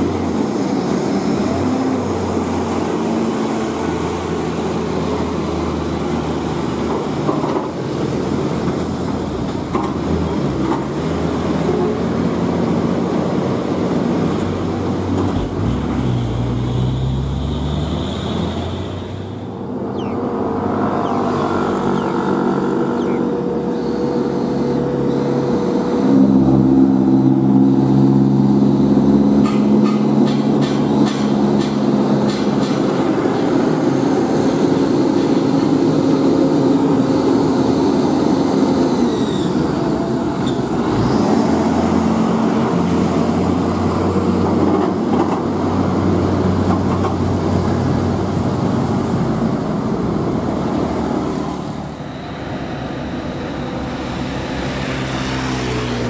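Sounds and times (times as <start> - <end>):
truck diesel engines under load: 0.0 - 56.0.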